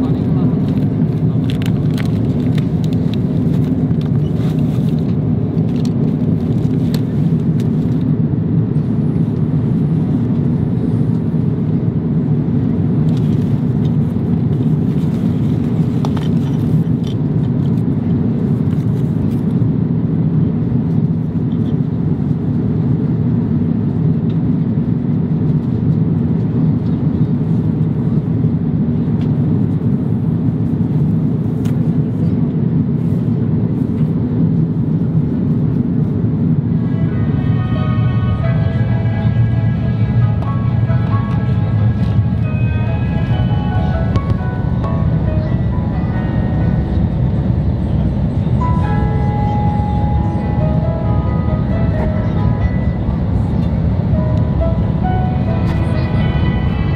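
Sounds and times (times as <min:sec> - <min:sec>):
airplane cabin rumble: 0:00.0 - 0:56.9.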